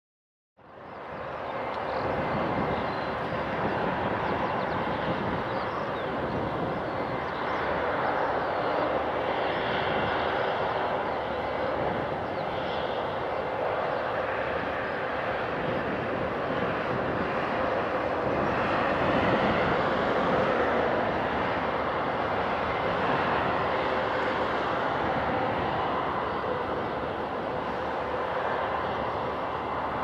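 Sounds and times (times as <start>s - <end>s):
jet engine noise: 0.6s - 30.0s.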